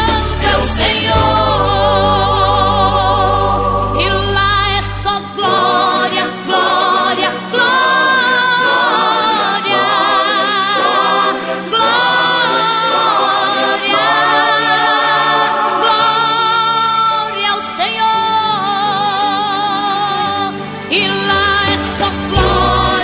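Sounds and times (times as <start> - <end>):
gospel singing voices: 0.0 - 23.0.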